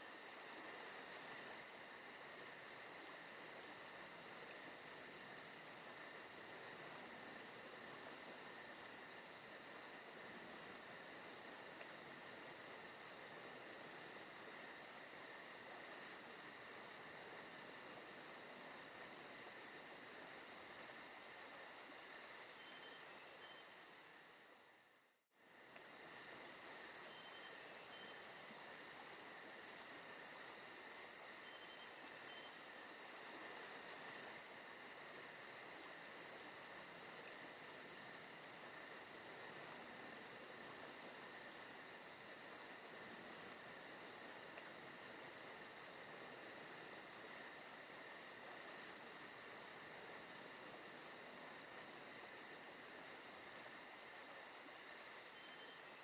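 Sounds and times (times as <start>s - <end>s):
crickets and insects trilling: 0.0s - 24.8s, 25.4s - 56.0s.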